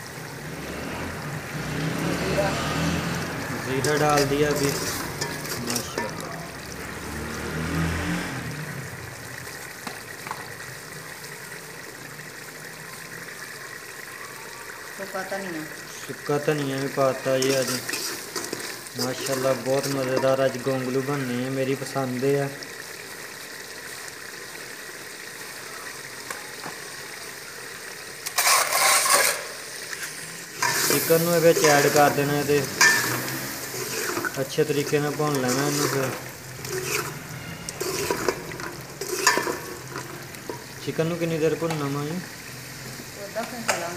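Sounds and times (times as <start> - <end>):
loud sizzle of chicken: 0.0 - 43.9
masala frying in oil: 0.0 - 43.9.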